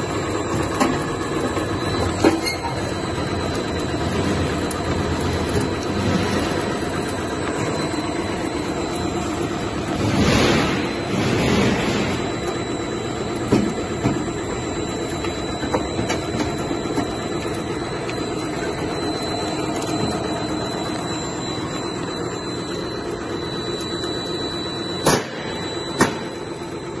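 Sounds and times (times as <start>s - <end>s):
machine drone with high whine: 0.0s - 27.0s.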